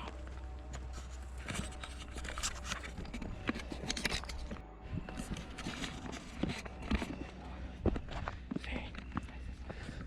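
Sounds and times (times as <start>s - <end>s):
footsteps on dirt trail: 0.0s - 2.2s, 2.8s - 10.0s
steady low hum: 0.0s - 10.0s.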